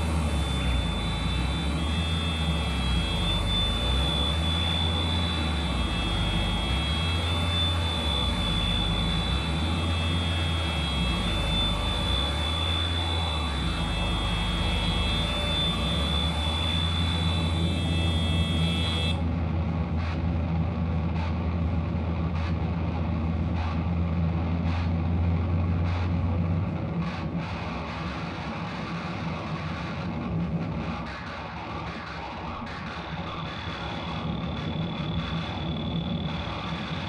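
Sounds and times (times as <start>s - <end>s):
low drone: 0.0s - 28.6s, 33.1s - 37.0s
dense noise music wash: 0.0s - 37.0s
high steady whine: 0.0s - 37.0s.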